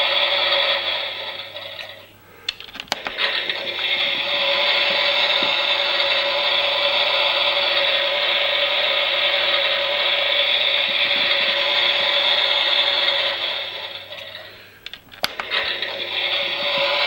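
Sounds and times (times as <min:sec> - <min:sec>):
small electric motor whining: 0:00.0 - 0:02.1, 0:02.9 - 0:17.0
toy machine clicks: 0:00.1 - 0:17.0.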